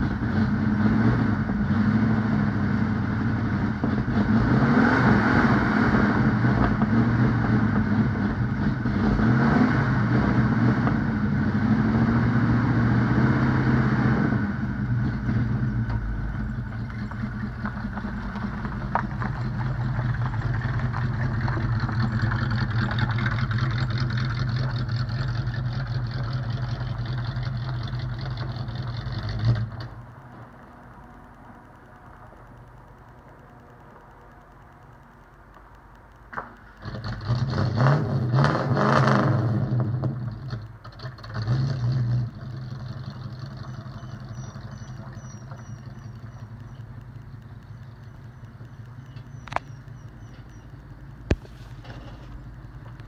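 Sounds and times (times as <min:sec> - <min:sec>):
car engine revving: 0:00.0 - 0:33.9, 0:36.6 - 0:53.0
car driving off: 0:00.0 - 0:35.6, 0:36.2 - 0:53.0.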